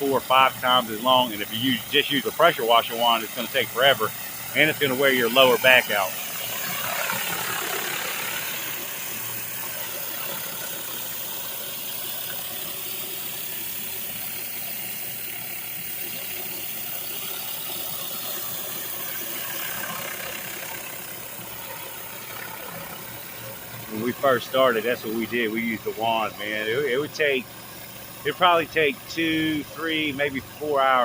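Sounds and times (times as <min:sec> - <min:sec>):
pressure washer engine running: 0:00.0 - 0:31.0
water spraying on concrete: 0:00.0 - 0:31.0.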